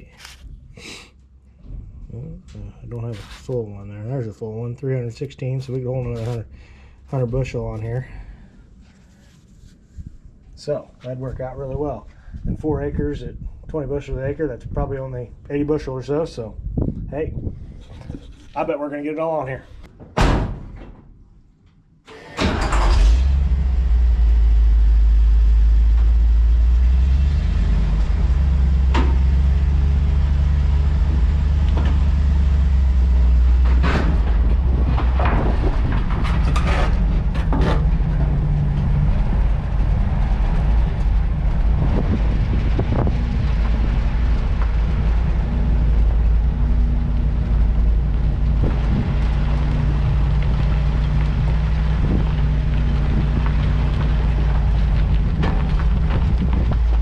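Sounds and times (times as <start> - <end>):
truck engine rumbling: 0.0 - 21.4, 22.1 - 57.0.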